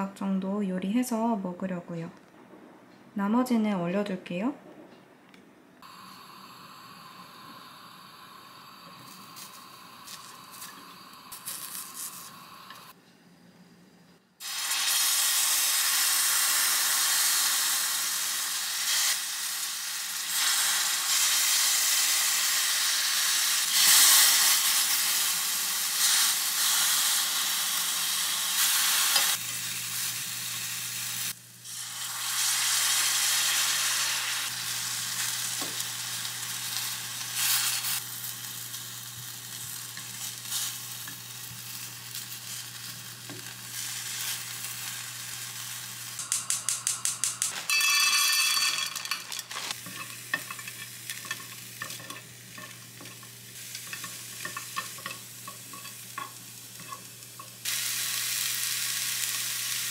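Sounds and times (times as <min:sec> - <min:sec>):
food sizzling in a frying pan: 0:05.8 - 0:13.0, 0:14.4 - 0:59.9.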